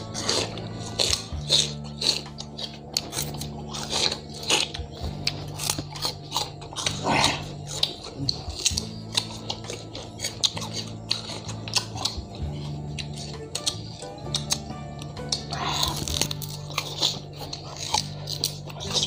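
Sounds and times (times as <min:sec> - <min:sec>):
background music with low drone: 0:00.0 - 0:19.0
sugarcane crunching while chewed: 0:00.0 - 0:19.0.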